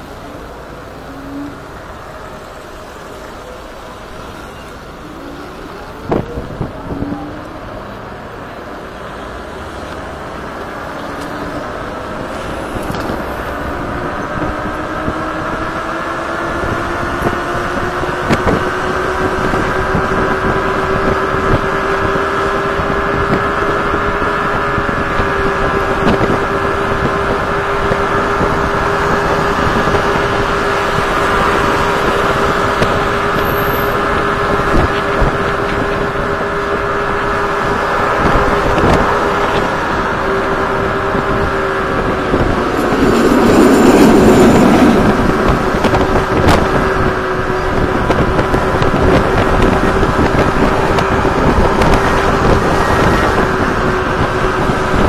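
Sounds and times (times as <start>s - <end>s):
road noise: 0.0s - 55.0s
wind noise: 0.0s - 55.0s
electric scooter motors whining: 9.9s - 55.0s.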